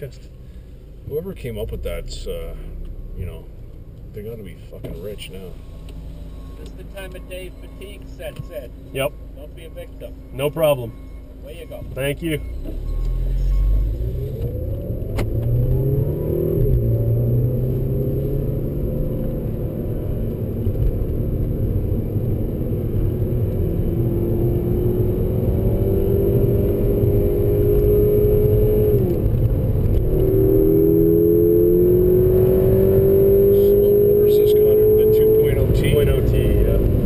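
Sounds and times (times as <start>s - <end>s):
road rumble: 0.0s - 37.0s
car engine accelerating: 1.1s - 37.0s.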